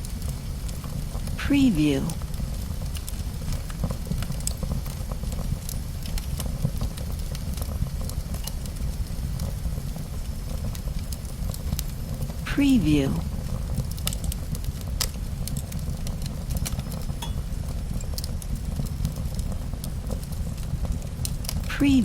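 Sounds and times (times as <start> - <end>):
crackles and ticks: 0.0 - 22.0.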